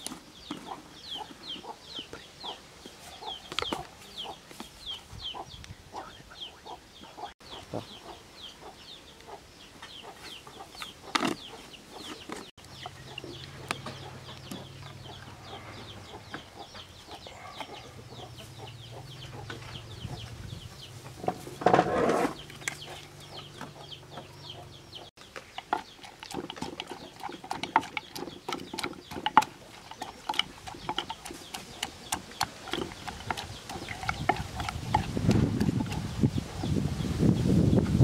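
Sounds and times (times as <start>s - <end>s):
chickens clucking: 0.0s - 36.8s.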